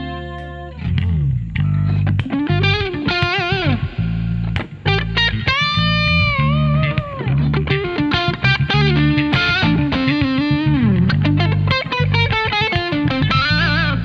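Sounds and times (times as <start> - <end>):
bass guitar notes: 0.0 - 14.0
electric guitar lead with bent notes: 0.0 - 14.0.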